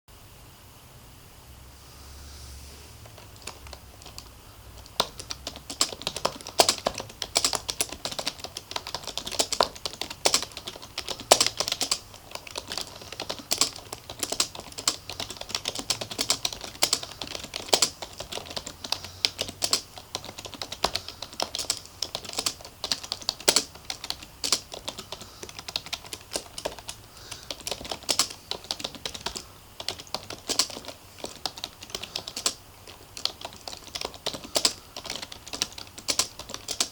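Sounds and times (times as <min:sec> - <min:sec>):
keyboard typing clicks: 0:03.0 - 0:36.9.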